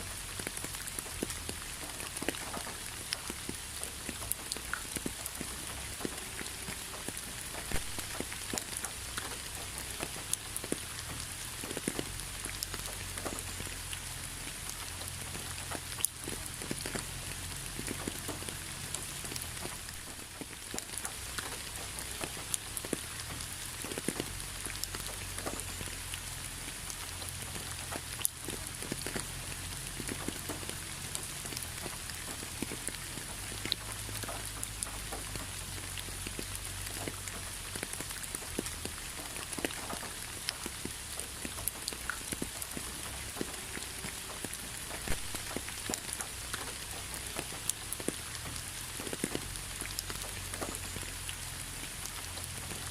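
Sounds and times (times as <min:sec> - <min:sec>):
rain falling: 0:00.0 - 0:52.9
raindrops ticking: 0:00.0 - 0:52.9.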